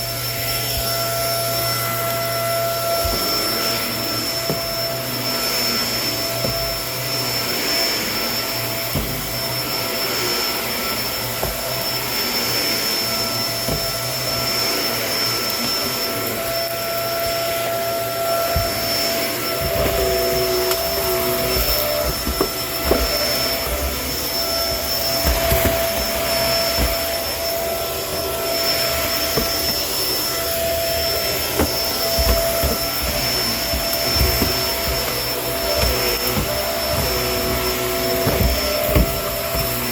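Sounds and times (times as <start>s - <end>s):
vacuum cleaner motor whine: 0.0s - 39.9s
small knocks and thuds: 0.6s - 7.1s, 8.8s - 12.3s, 13.6s - 14.6s, 17.1s - 39.9s.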